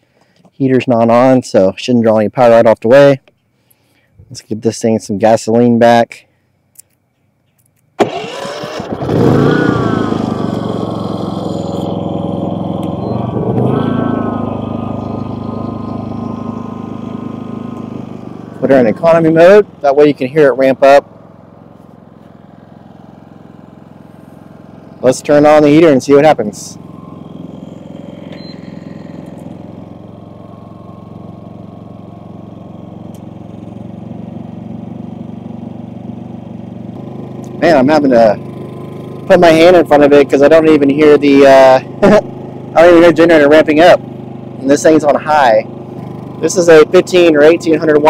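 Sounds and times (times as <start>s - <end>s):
generator engine running: 8.0s - 48.0s.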